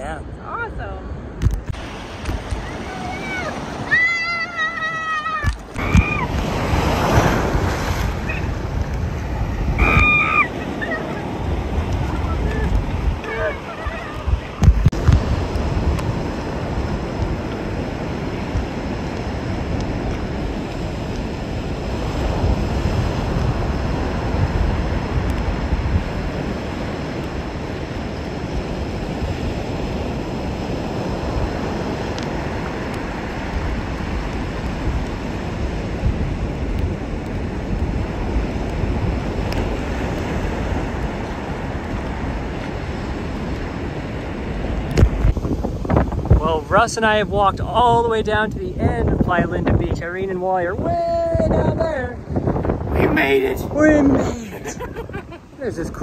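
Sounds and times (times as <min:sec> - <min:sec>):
ocean surf: 0:00.0 - 0:56.0
wind buffeting microphone: 0:00.0 - 0:56.0.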